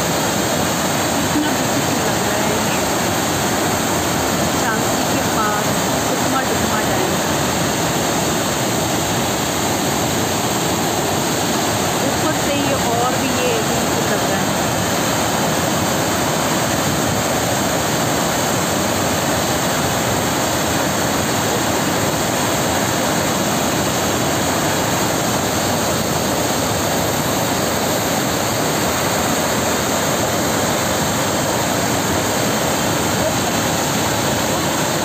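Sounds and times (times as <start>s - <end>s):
water rushing over spillway: 0.0s - 35.0s.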